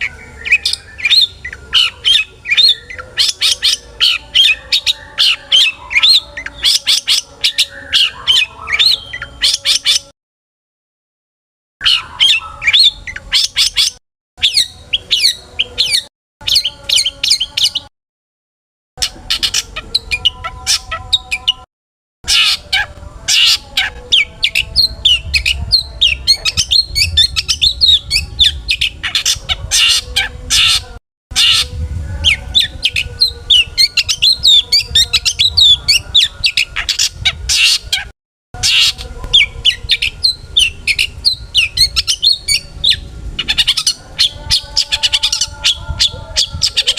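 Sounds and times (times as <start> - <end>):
bird singing: 0.0 - 10.1, 11.8 - 17.9, 19.0 - 21.7, 22.3 - 46.9.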